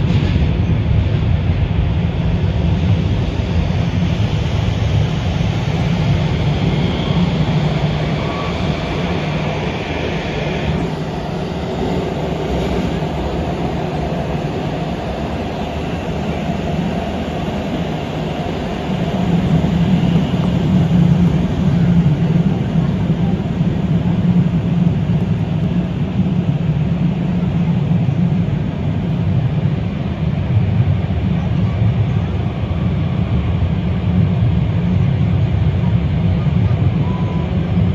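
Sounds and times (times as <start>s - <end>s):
subway train wheels rumbling: 0.0s - 37.9s.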